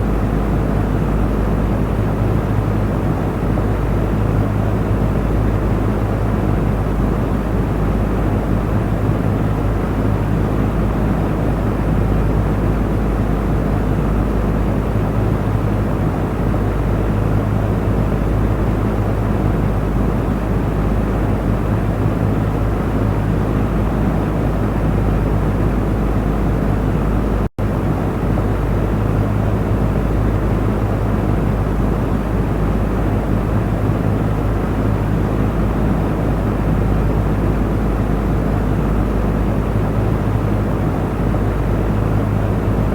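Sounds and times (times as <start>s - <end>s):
electric fan running: 0.0s - 42.9s.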